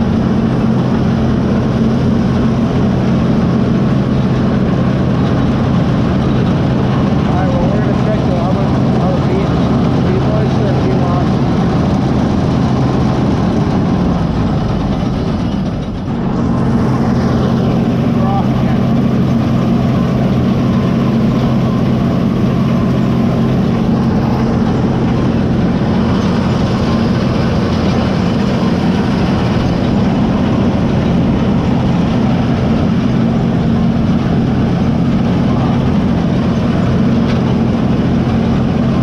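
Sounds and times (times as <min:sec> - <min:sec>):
combine harvester engine running: 0:00.0 - 0:39.0
machine rushing noise: 0:00.0 - 0:39.0.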